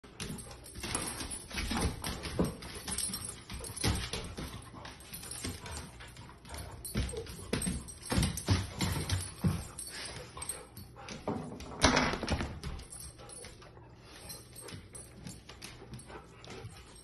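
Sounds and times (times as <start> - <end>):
dog play noises: 0.0 - 17.0.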